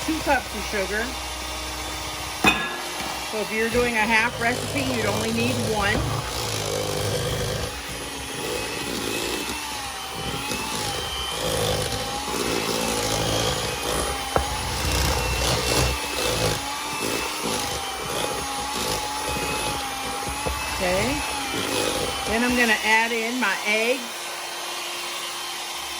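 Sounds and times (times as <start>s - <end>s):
electric mixer motor whine: 0.0s - 25.9s.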